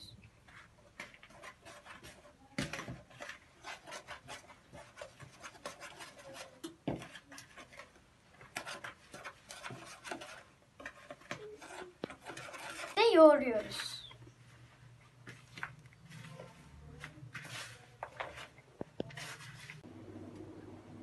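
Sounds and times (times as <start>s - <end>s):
cookie dough mixed in a bowl: 0.2s - 19.9s.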